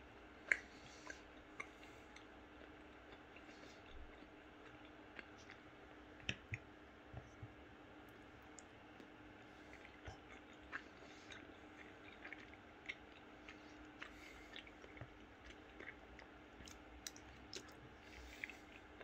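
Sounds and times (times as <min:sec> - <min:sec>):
faint steady hum: 0:00.0 - 0:19.0
person chewing food: 0:00.2 - 0:19.0.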